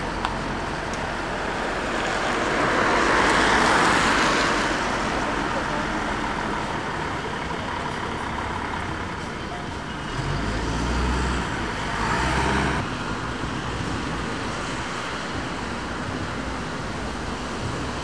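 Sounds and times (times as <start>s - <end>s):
buses and cars passing: 0.0s - 18.0s.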